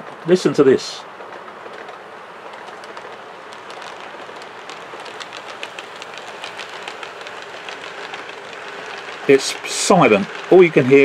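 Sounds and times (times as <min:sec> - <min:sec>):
model train wheels clicking on track joints: 0:00.0 - 0:11.0
steady running hiss: 0:00.0 - 0:11.0.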